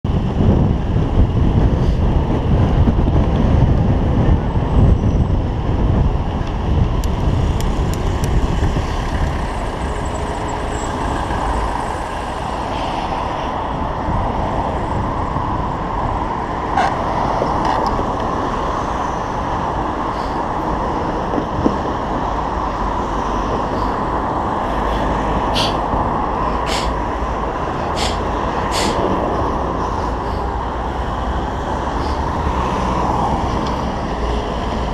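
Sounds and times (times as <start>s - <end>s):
road traffic noise: 0.0s - 34.9s
wind rumble on microphone: 0.0s - 34.9s.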